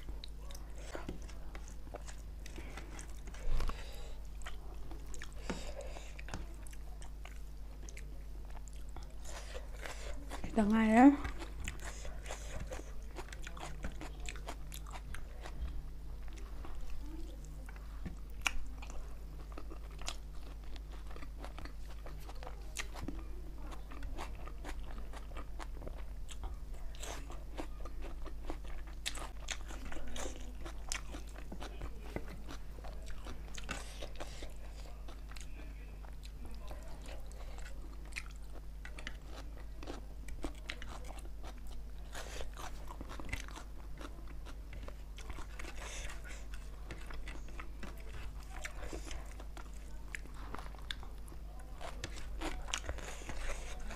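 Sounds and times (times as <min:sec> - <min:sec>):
low electrical hum: 0:00.0 - 0:53.9
person chewing food: 0:00.0 - 0:53.9.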